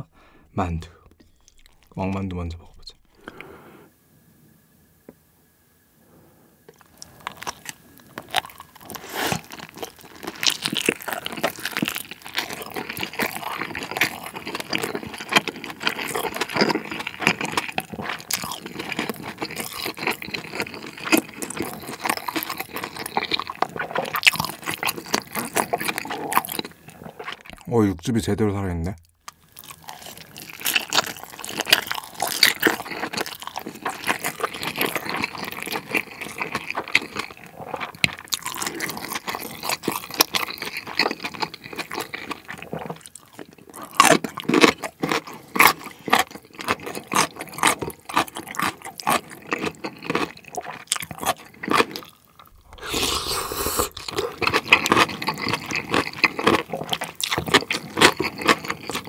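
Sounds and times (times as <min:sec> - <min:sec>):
wet chewing and mouth smacking: 0:01.2 - 0:02.0, 0:06.7 - 0:27.7, 0:29.2 - 0:59.0.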